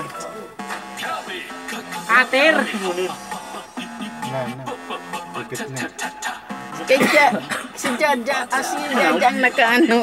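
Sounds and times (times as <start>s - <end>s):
television music with voice: 0.0s - 10.0s.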